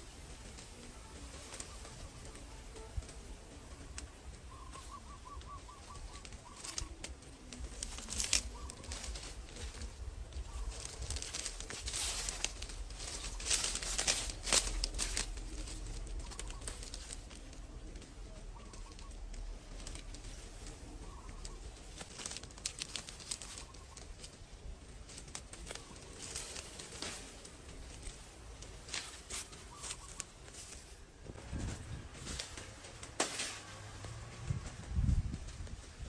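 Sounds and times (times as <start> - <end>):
bird calling: 0.0 - 34.8
leafy branches rustling: 0.0 - 36.0.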